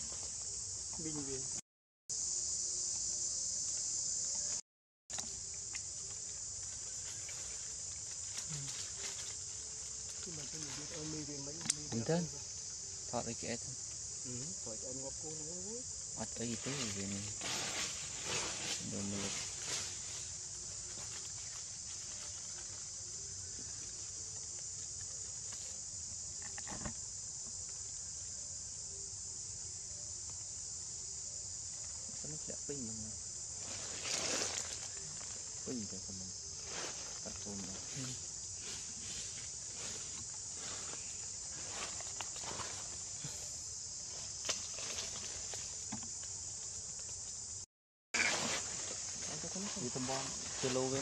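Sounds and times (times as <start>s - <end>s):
high-pitched insect chorus: 0.0s - 51.0s.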